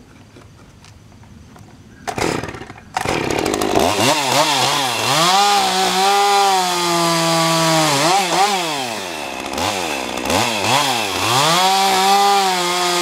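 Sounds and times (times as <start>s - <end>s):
chainsaw revving: 2.1s - 13.0s.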